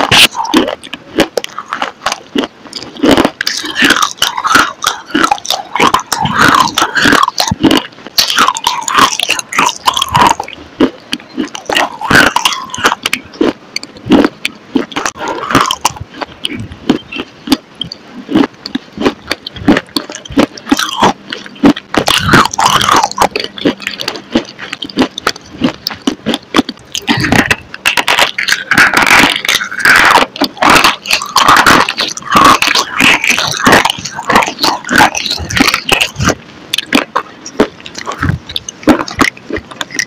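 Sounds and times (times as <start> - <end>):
mouth biting and chewing: 0.0 - 40.0.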